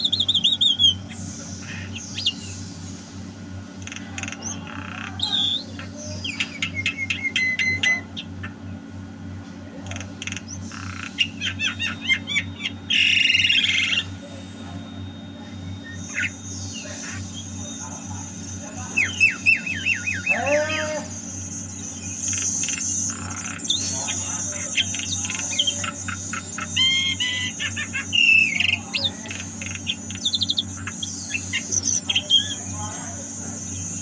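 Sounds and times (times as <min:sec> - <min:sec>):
myna bird calling: 0:00.0 - 0:34.0
steady low hum: 0:00.0 - 0:34.0.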